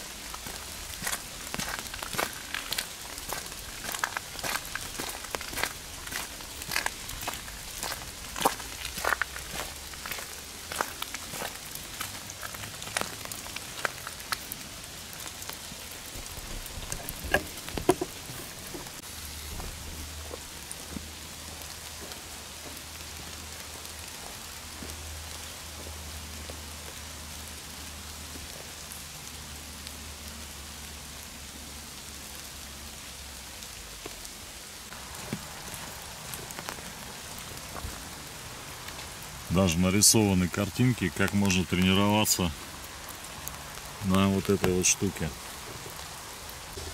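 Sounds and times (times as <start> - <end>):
rain falling on foliage: 0.0 - 46.9.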